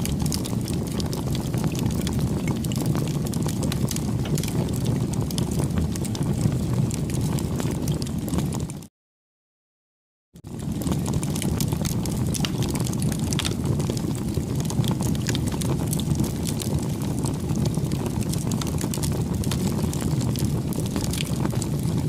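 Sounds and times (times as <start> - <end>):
burning wood crackling: 0.0 - 8.7, 10.4 - 22.0
rush of flames: 0.0 - 8.9, 10.4 - 22.0.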